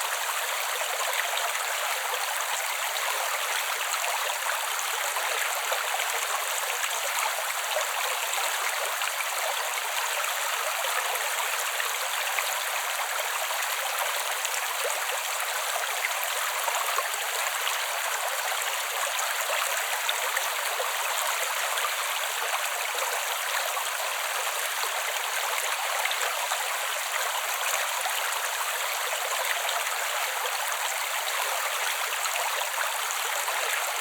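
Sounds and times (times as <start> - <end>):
creek water flowing over rocks: 0.0 - 34.0.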